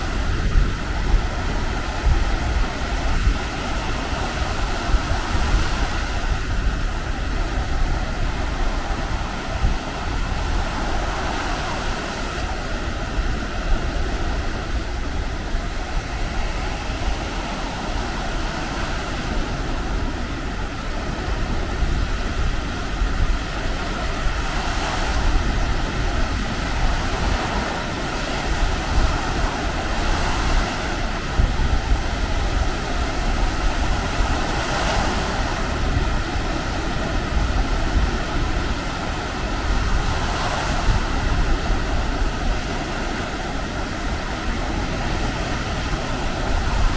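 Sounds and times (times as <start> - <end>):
waves breaking on beach: 0.0 - 46.9
wind on microphone: 0.0 - 46.9.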